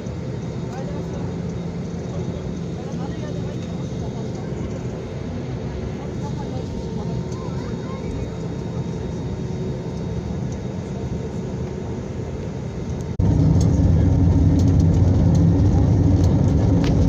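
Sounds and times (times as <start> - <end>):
airplane engines roaring: 0.0 - 17.0.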